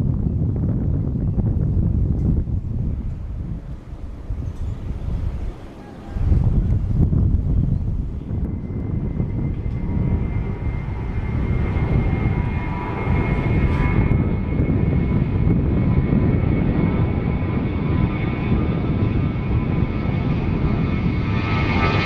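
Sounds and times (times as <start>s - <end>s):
airliner engines whining: 0.0s - 22.0s.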